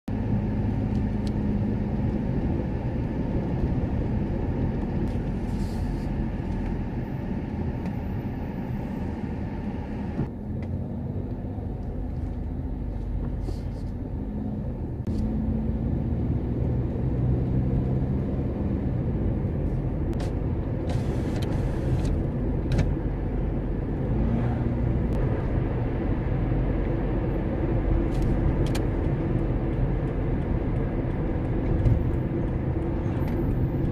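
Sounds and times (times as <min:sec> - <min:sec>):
car engine and tyre rumble: 0:00.1 - 0:33.9.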